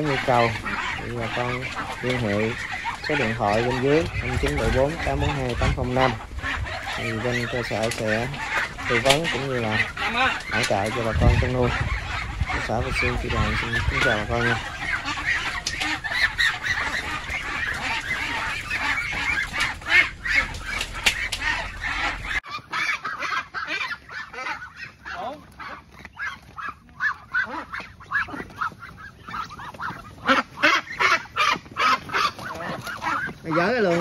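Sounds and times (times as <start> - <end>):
ducks calling: 0.0 - 34.0.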